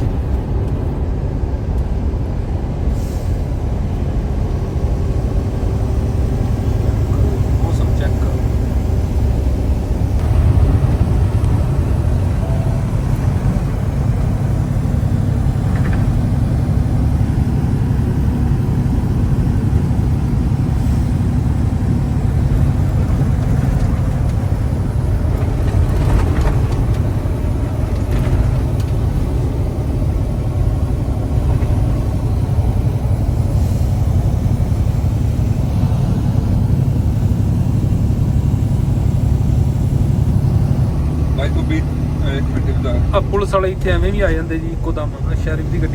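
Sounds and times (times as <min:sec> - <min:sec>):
vehicle engine and road drone: 0:00.0 - 0:45.9.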